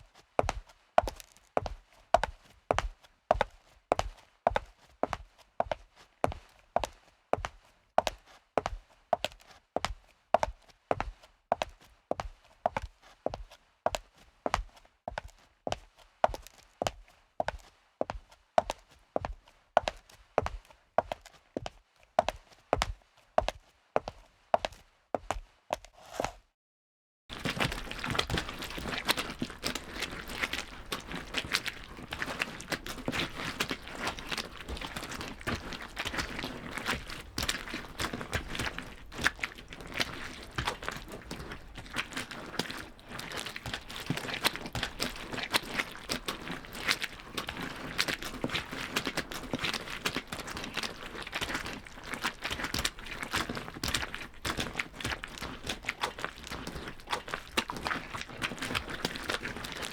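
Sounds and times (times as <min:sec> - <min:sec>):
footsteps with clicks and scuffs: 0:00.0 - 0:26.5, 0:27.3 - 0:59.9.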